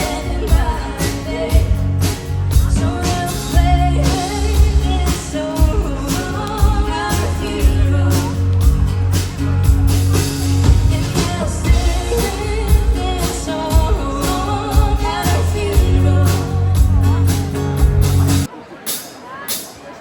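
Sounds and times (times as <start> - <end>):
lead vocal: 0.0 - 9.4, 10.2 - 18.5
held bass: 0.0 - 18.5
drum beats: 0.0 - 20.0
live band playing: 0.0 - 20.0.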